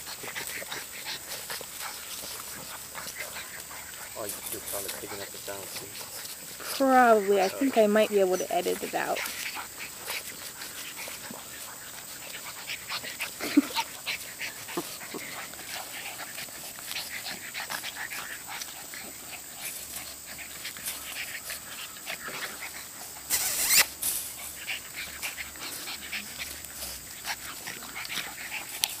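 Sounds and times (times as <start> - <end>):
puppies snorting and grunting: 0.0 - 29.0.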